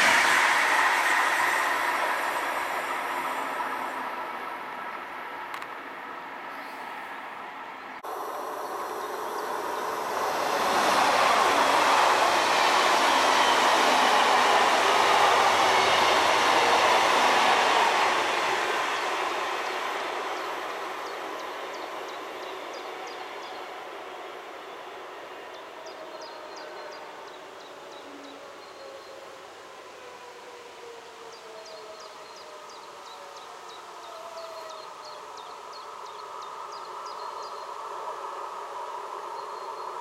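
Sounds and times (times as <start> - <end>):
electric train running past: 0.0 - 6.4, 7.2 - 40.0.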